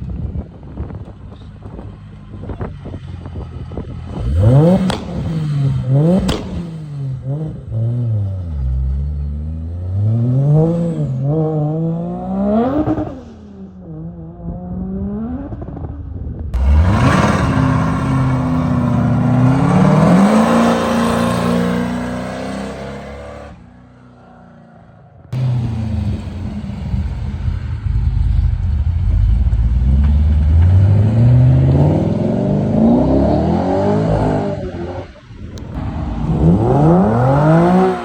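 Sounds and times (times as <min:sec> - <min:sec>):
car accelerating: 0:02.4 - 0:23.8, 0:24.6 - 0:38.0
car engine revving: 0:02.5 - 0:16.0, 0:16.6 - 0:23.7, 0:25.4 - 0:38.0.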